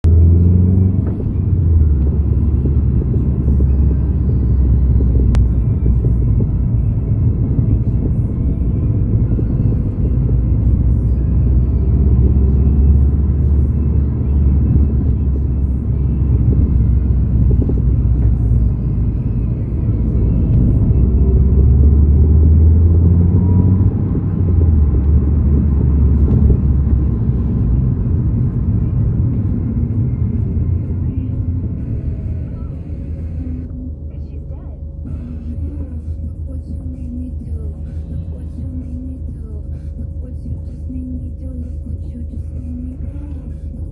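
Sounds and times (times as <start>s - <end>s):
motor vehicle low rumble: 0.0s - 43.9s.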